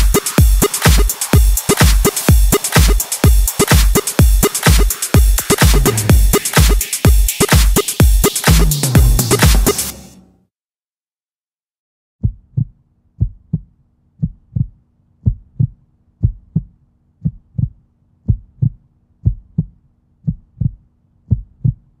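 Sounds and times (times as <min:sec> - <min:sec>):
heartbeat-like double thumps: 0:00.0 - 0:09.9, 0:12.2 - 0:21.9.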